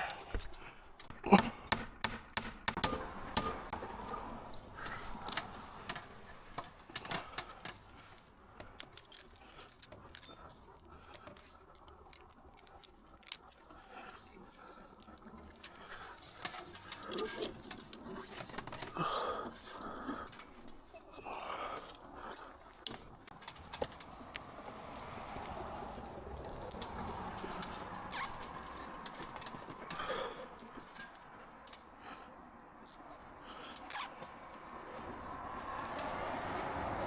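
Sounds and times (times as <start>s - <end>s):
tools clicking and jingling: 0.0s - 19.0s, 22.7s - 32.0s, 32.8s - 37.0s.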